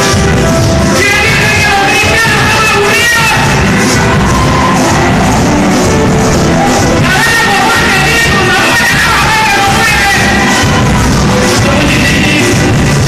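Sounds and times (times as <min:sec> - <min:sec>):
person singing: 0:00.8 - 0:13.0.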